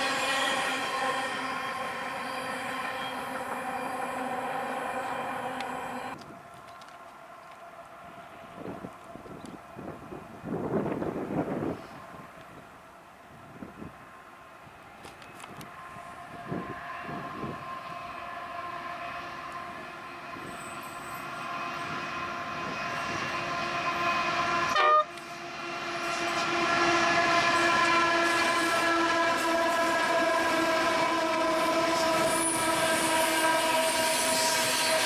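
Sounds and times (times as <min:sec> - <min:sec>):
diesel locomotive engine drone: 0:00.0 - 0:35.0
wheels rumbling on rails: 0:00.0 - 0:35.0.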